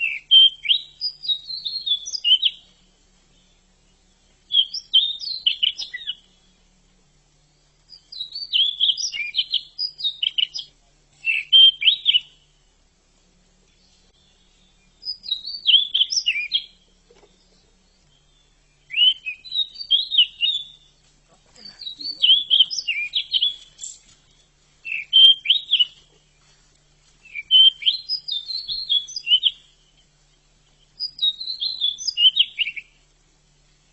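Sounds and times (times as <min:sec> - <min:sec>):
bird warbling song: 0:00.0 - 0:33.9.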